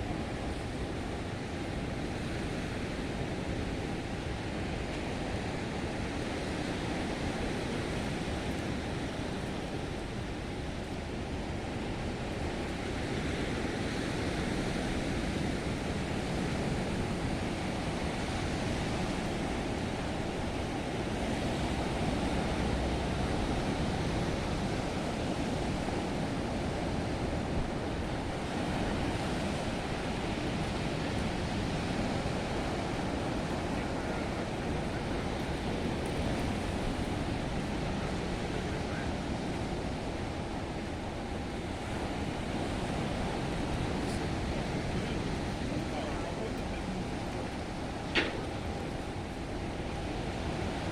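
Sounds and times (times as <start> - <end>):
waves breaking on shore: 0.0 - 50.9.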